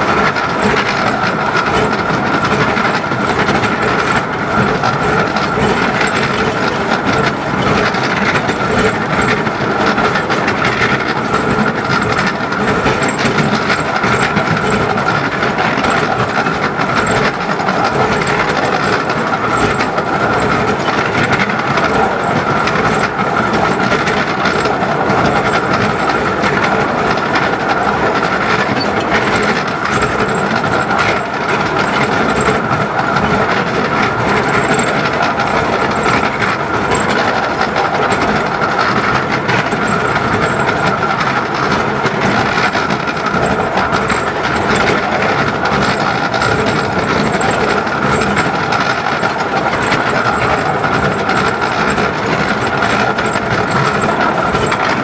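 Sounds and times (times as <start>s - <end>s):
steam train running noise: 0.0s - 55.0s
wheels clickety-clack over rail joints: 0.0s - 55.0s.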